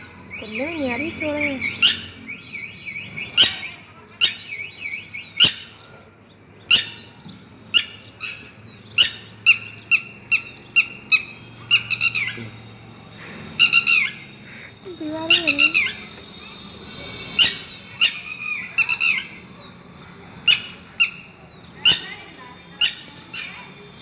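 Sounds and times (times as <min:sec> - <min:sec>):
bird sharp calls: 0:00.0 - 0:06.0, 0:06.6 - 0:19.8, 0:20.4 - 0:23.8
soft wavering bird trill: 0:00.0 - 0:24.0.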